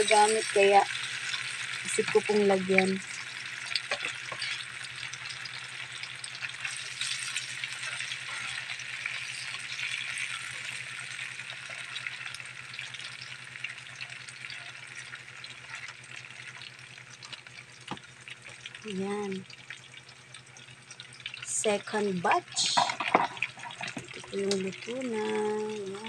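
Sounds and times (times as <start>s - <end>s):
fish deep-frying in oil: 0.0s - 26.0s.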